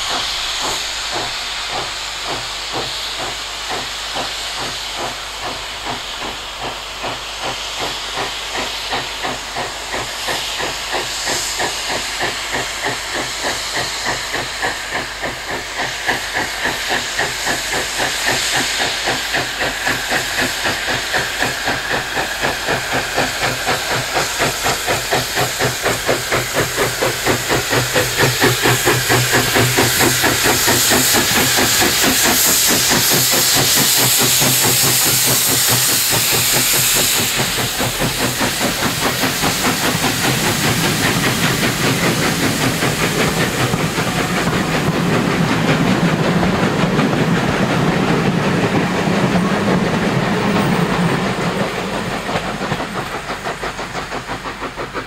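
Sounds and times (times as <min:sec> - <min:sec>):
steam hiss: 0:00.0 - 0:55.0
steam locomotive exhaust chuffs: 0:00.0 - 0:55.0.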